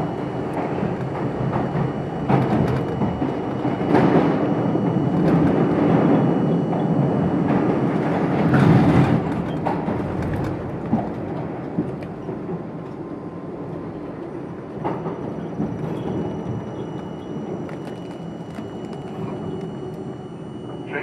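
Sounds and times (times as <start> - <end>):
subway car wheels rumbling: 0.0 - 21.0.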